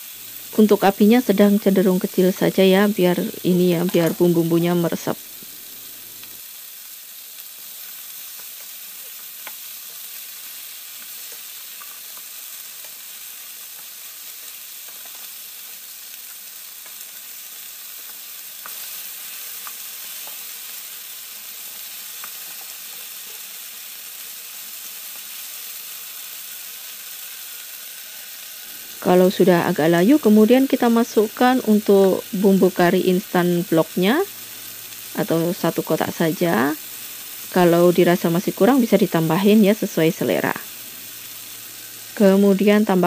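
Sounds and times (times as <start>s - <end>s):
food sizzling in a frying pan: 0.0s - 43.0s.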